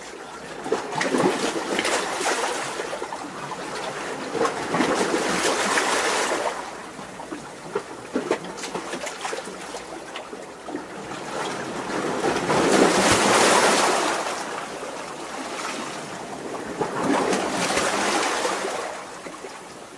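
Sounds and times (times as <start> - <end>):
sea waves washing over rocks: 0.0 - 9.7, 10.9 - 19.9
water splashes and trickles: 0.0 - 19.9.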